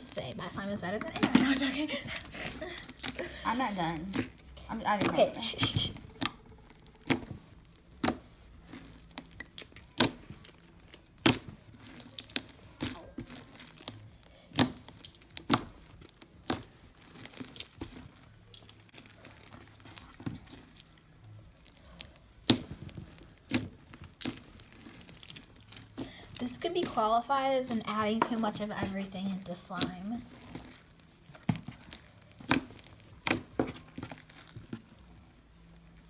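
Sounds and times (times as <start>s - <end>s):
slime popping and crackling: 0.0s - 36.0s.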